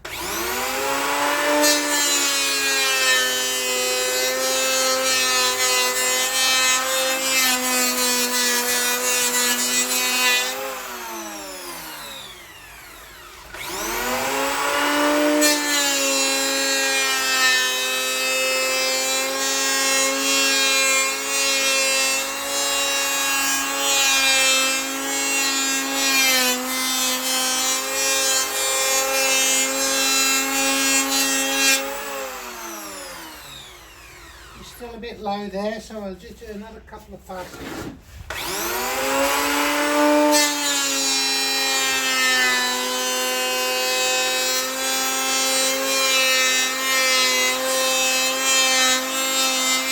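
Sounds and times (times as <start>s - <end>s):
power tool cutting wood: 0.0s - 35.4s, 37.8s - 49.9s.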